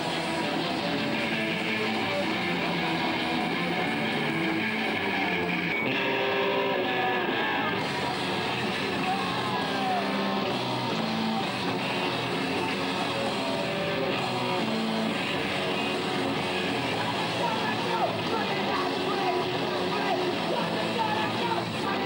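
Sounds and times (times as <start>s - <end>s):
electric guitar: 0.0s - 22.0s
rock band playing: 0.0s - 22.0s.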